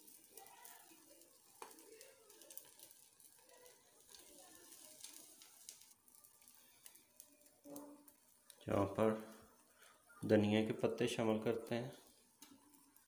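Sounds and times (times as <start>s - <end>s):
egg sizzling in a pan: 0.0s - 13.0s.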